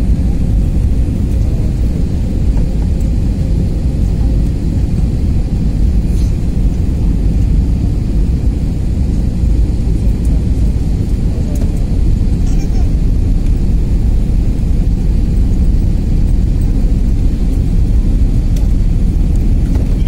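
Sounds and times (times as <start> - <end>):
jet airliner cabin noise: 0.0 - 20.0.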